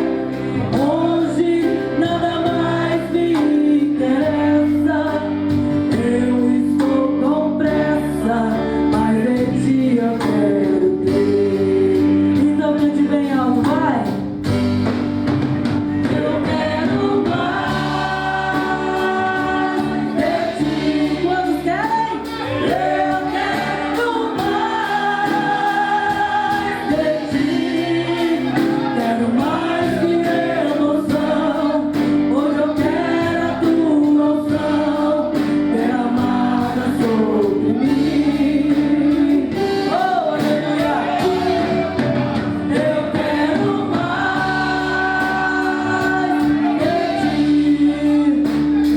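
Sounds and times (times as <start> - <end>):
gospel choir singing with band: 0.0 - 48.9.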